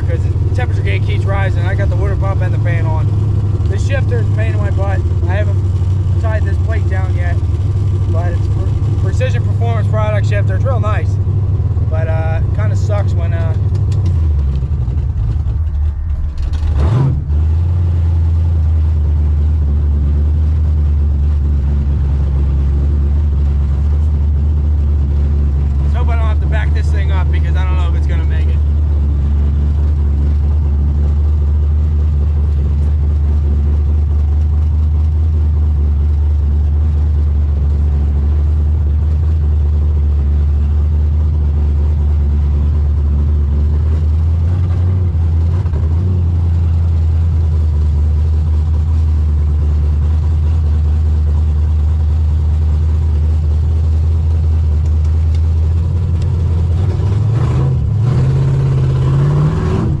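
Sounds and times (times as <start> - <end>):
car engine running low: 0.0 - 60.0.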